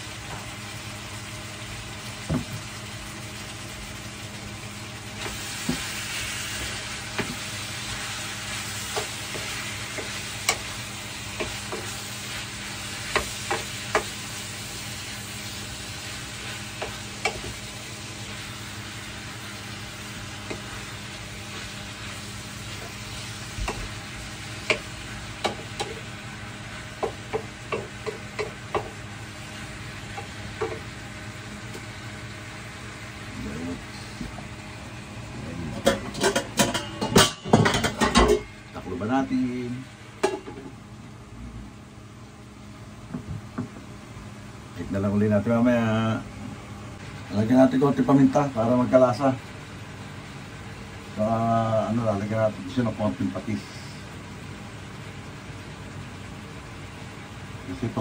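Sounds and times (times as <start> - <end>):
pork sizzling in a pan: 0.0 - 58.0.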